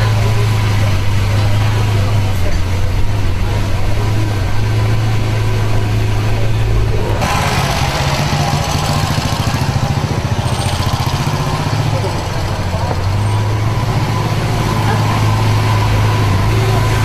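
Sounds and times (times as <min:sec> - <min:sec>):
car engine low burble: 0:00.0 - 0:17.0.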